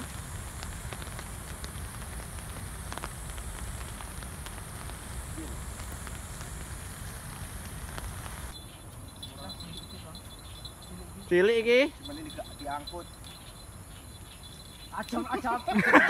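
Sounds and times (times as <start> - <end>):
steady rain falling: 0.0 - 9.9, 10.7 - 16.0.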